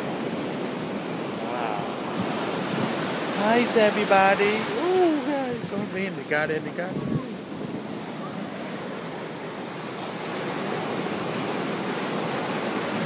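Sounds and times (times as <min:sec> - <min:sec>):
foamy water rushing up beach: 0:00.0 - 0:13.0
ocean surf breaking: 0:00.0 - 0:13.0.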